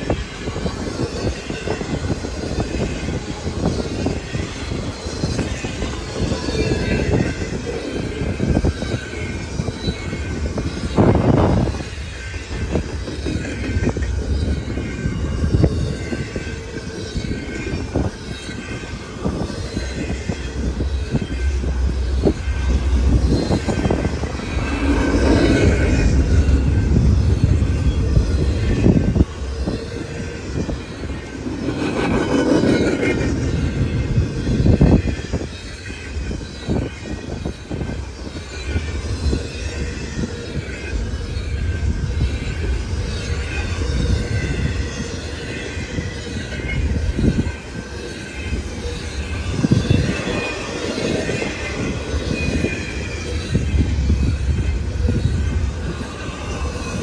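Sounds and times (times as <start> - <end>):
faint high wheel squeal: 0.0 - 57.0
steel wheels rumbling on rail: 0.0 - 57.0.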